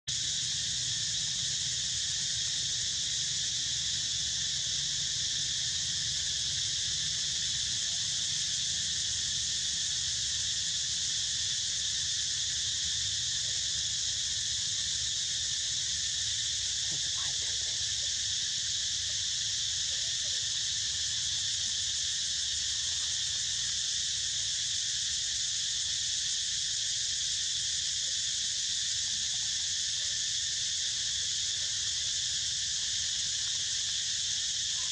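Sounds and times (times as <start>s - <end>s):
insects buzzing: 0.1s - 34.9s.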